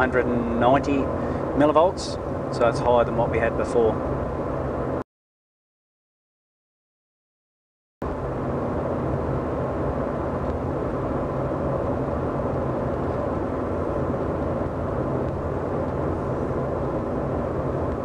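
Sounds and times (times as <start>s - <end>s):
tyre road noise drone: 0.0s - 5.0s, 8.0s - 18.0s.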